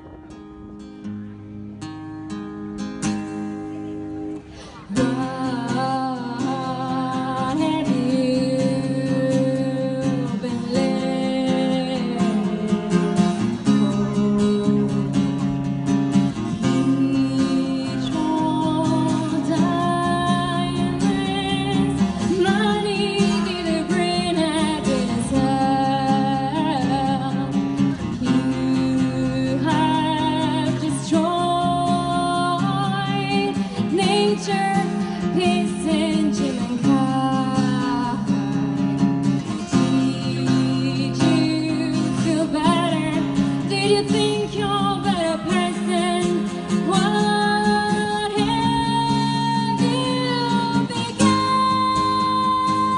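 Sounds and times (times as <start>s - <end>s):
acoustic guitar: 0.0s - 52.9s
woman singing: 4.8s - 52.9s.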